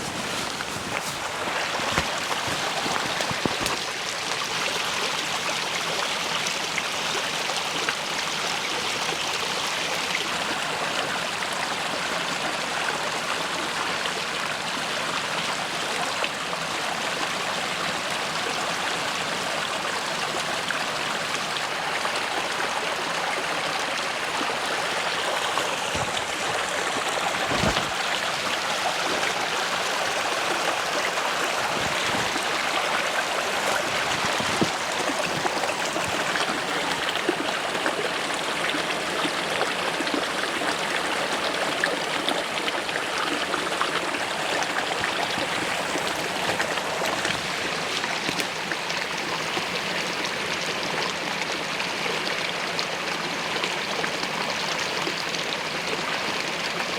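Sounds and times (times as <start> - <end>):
running water rushing: 0.0 - 56.9.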